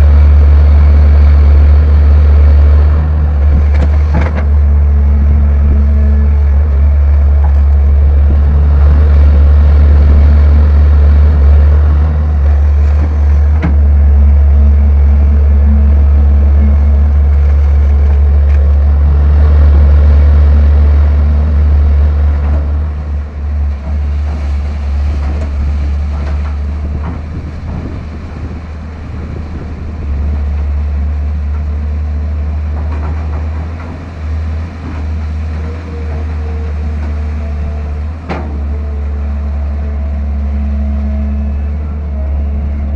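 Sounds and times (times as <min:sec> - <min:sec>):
engine knocks: 0:00.0 - 0:41.8
excavator diesel engine running: 0:00.0 - 0:42.9.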